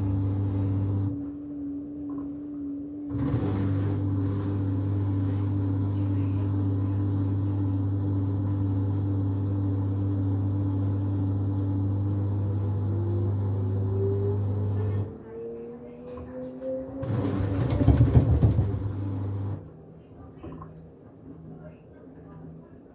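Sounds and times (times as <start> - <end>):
washing machine running: 0.0 - 21.5.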